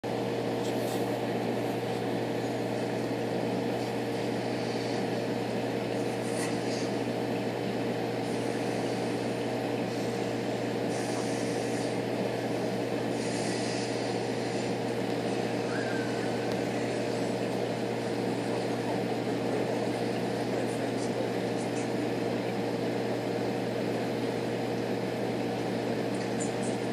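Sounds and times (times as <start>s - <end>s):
aquarium equipment hum: 0.0s - 26.9s.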